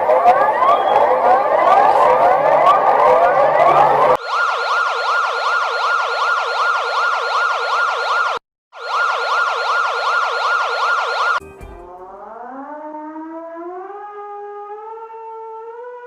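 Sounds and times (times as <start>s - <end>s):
electronic alert siren wailing: 0.0s - 16.0s.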